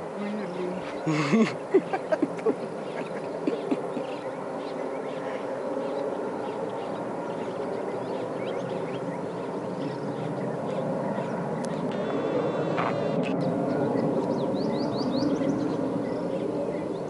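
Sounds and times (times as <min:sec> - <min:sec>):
jet engines roaring at takeoff: 0:00.0 - 0:17.0.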